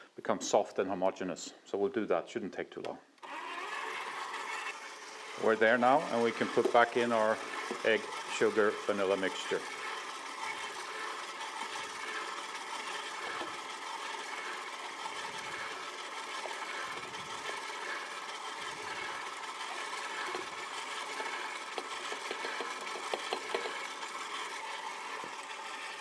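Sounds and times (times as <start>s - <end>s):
stand mixer motor hum: 3.2s - 26.0s.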